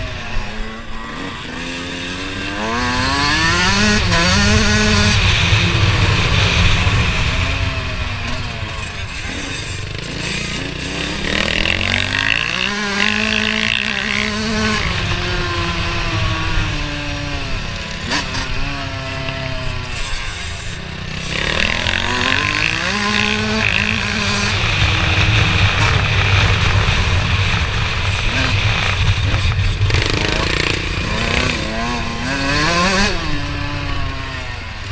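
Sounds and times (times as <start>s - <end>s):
motocross bike engines revving: 0.0s - 34.9s.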